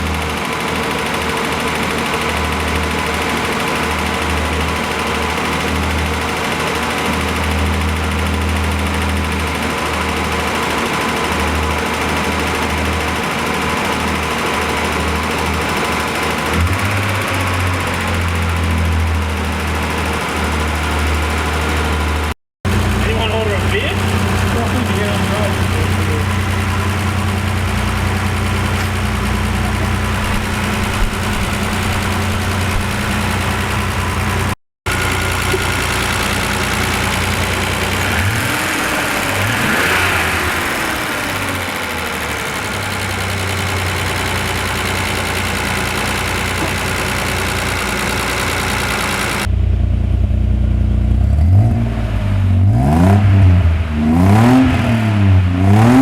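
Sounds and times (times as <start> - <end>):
noisy timing chain: 0.0 - 49.5
car engine running and revving: 0.0 - 56.0.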